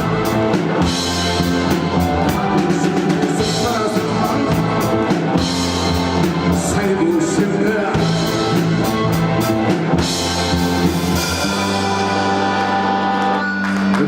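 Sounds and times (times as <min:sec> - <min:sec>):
drum kit beat: 0:00.0 - 0:13.4
electric guitar: 0:00.0 - 0:14.0
live rock band playing: 0:00.0 - 0:14.0
sustained bass notes: 0:00.0 - 0:14.0.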